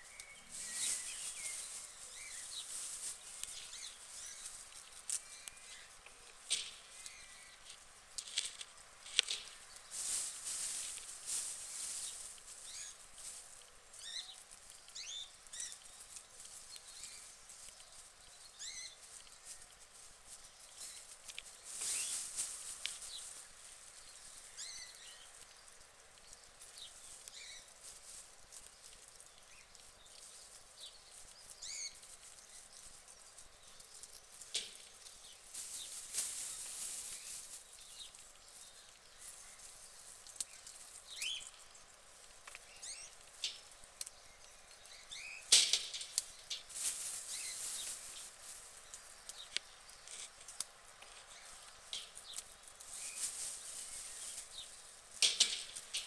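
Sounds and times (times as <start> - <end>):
guinea pigs chewing lettuce: 0.0 - 45.5
rustling through straw: 0.0 - 56.0.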